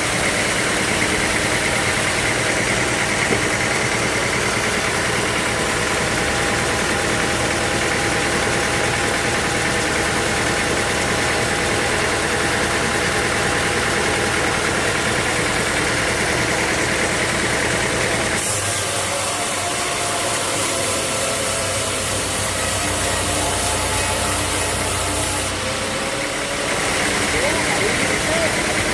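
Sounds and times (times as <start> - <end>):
sawmill machinery drone: 0.0 - 28.9.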